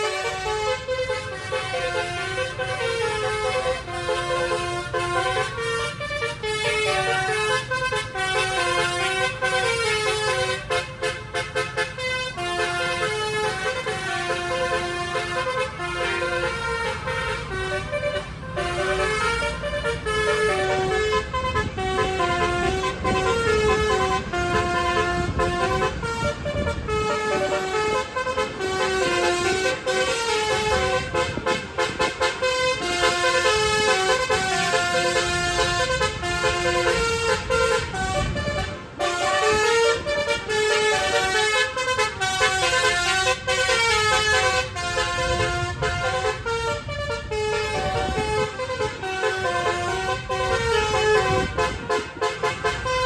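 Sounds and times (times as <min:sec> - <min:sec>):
multi-tone bus horn melody: 0:00.0 - 0:53.0.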